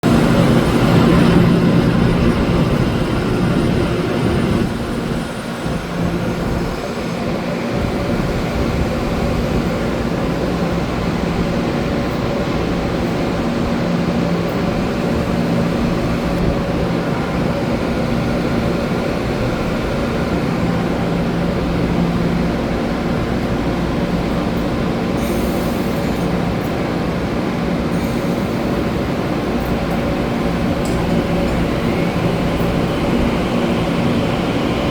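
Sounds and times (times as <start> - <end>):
electric train hum: 0.0 - 34.9.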